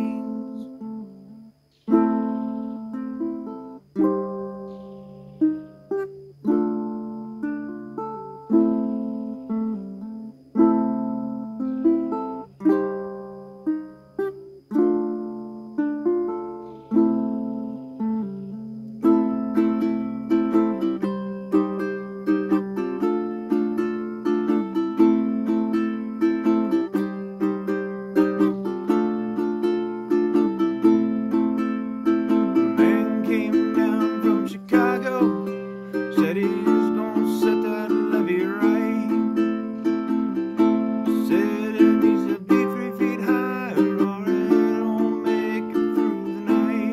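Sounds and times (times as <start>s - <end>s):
ukulele strumming: 0.0s - 46.9s.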